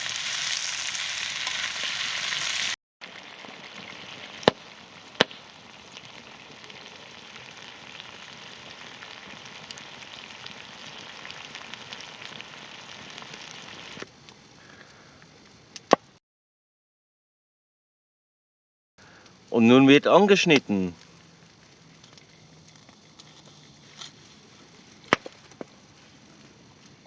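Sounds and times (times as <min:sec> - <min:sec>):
steak sizzling over fire: 0:00.0 - 0:14.5, 0:19.6 - 0:27.0
sharp fire cracks: 0:00.0 - 0:16.2, 0:20.2 - 0:27.0.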